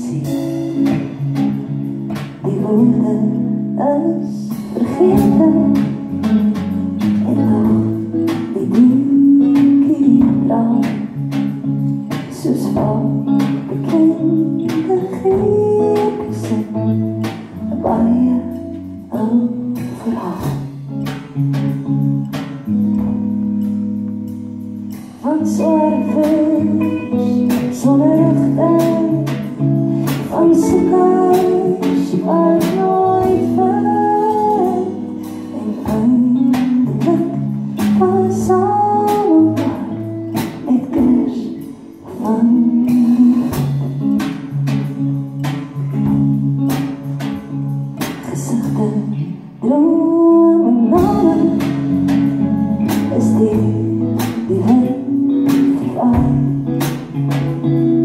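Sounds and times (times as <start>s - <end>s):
woman singing: 0.0s - 22.0s, 25.1s - 44.9s, 45.6s - 58.0s
strummed guitars: 0.0s - 58.0s.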